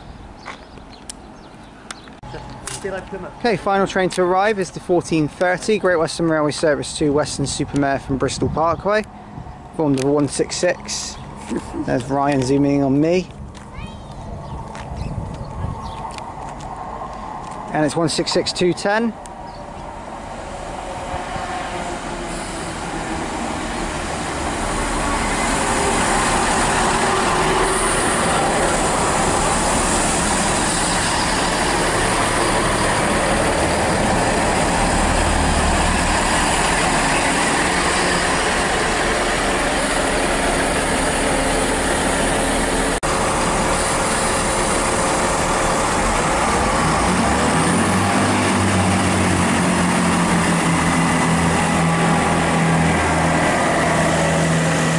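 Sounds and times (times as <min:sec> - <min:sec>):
diesel train running in: 0:00.0 - 0:54.9.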